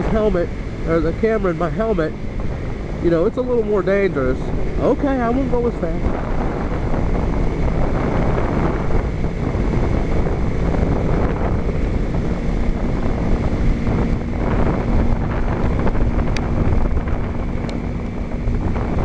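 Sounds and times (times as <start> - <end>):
motorcycle engine hum: 0.0 - 19.0
wind buffeting microphone: 0.0 - 19.0.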